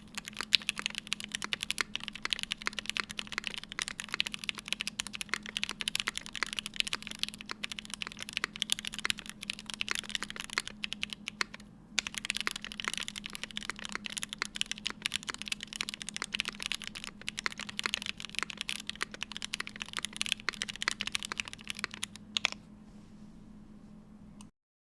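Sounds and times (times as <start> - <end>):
mechanical keyboard clacking: 0.0 - 22.6.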